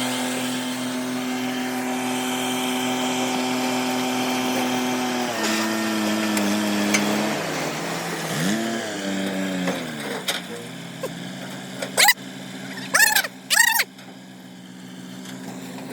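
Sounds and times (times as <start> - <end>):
heavy diesel engine running: 0.0 - 15.9.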